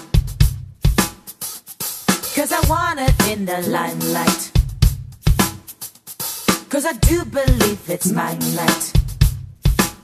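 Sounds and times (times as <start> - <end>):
song with drum beat: 0.0 - 10.0.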